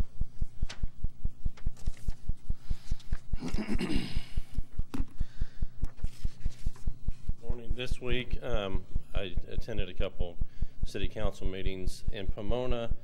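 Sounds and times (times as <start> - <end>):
low thumping pulse: 0.0 - 3.4, 4.2 - 13.0.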